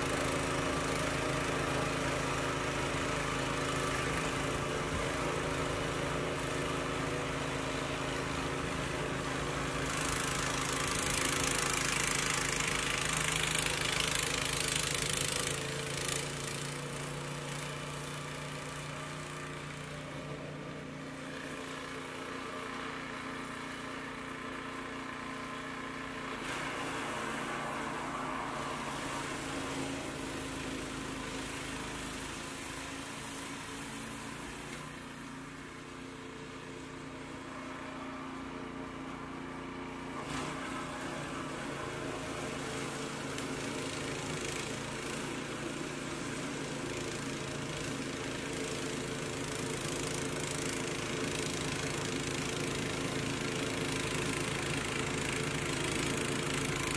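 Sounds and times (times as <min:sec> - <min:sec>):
snowblower engine running: 0:00.0 - 0:56.9.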